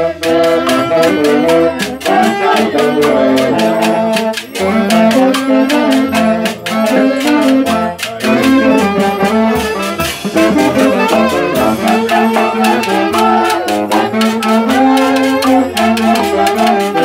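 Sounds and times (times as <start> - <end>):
drum and cymbal beat: 0.0 - 17.0
saxophones playing melody: 0.0 - 17.0
violin: 0.0 - 17.0.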